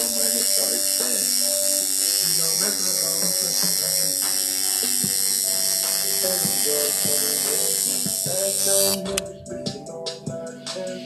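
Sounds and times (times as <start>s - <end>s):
electric tattoo machine buzzing: 0.0s - 9.2s.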